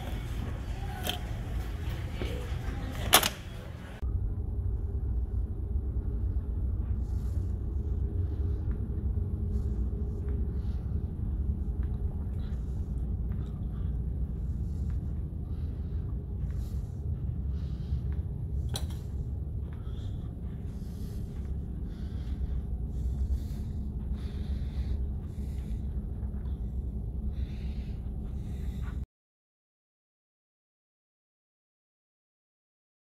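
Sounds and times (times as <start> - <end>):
ship engines rumbling: 0.0 - 28.9.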